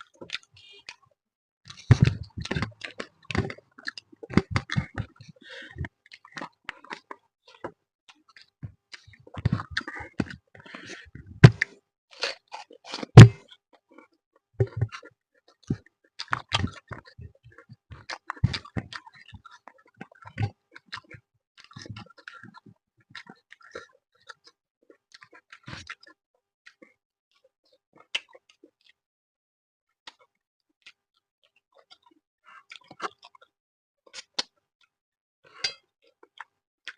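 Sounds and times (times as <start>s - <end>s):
person chewing food: 0.0s - 1.1s, 1.7s - 29.0s, 30.1s - 36.9s.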